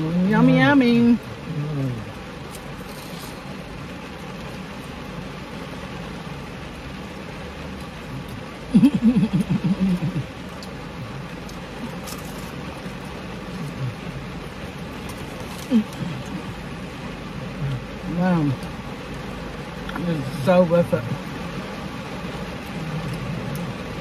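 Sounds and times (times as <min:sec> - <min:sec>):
rain on a car roof: 0:00.0 - 0:24.0.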